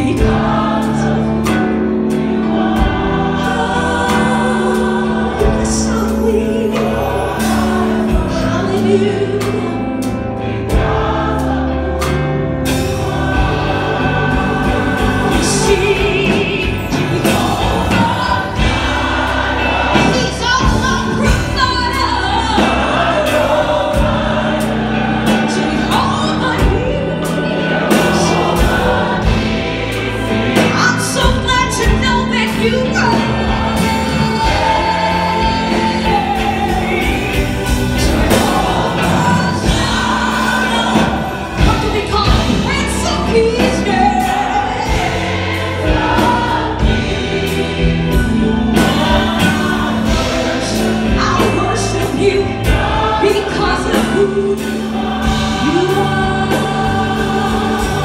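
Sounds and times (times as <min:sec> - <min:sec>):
gospel choir singing: 0:00.0 - 0:58.0
live band accompaniment: 0:00.0 - 0:58.0.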